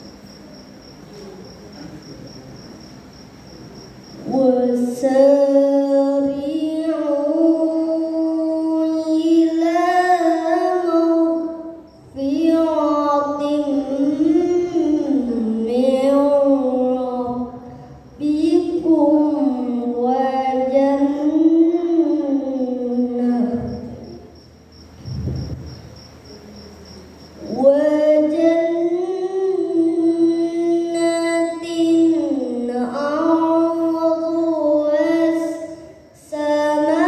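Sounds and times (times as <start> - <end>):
boy chanting into a microphone: 4.1 - 24.4, 27.4 - 37.0.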